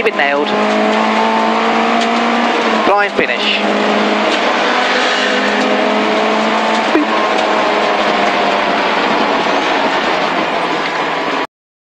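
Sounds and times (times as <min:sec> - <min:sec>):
car engine running hard: 0:00.0 - 0:11.5
road and tyre noise: 0:00.0 - 0:11.5.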